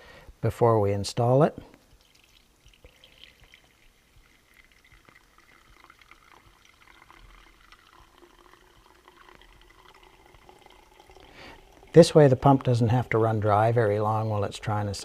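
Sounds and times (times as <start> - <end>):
fuel trickling into canister: 1.8 - 15.0.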